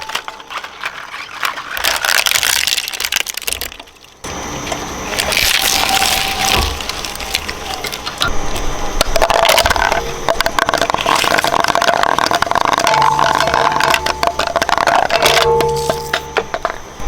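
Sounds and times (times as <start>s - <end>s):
shredder crunching: 0.0s - 17.0s.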